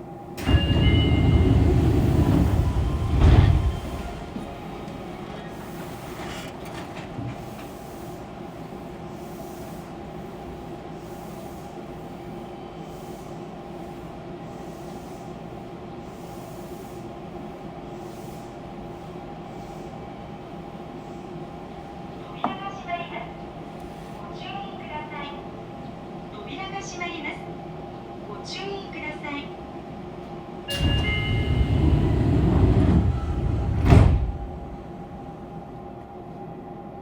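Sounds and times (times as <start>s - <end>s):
train equipment humming: 0.0s - 25.0s, 30.2s - 37.0s.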